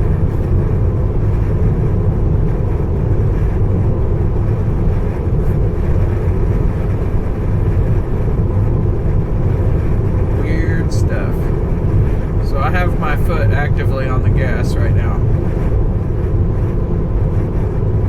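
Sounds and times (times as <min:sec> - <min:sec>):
gusting wind: 0:00.0 - 0:18.0
road noise rumble: 0:00.0 - 0:18.0.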